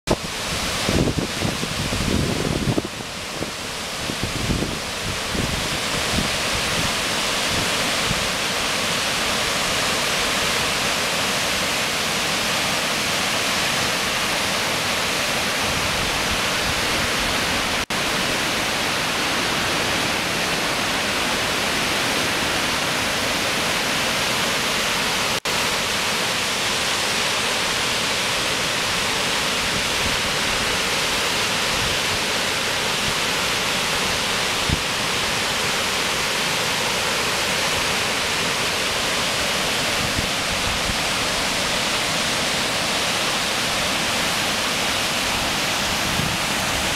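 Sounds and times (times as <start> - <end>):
waterfall rushing into pool: 0.1 - 46.9.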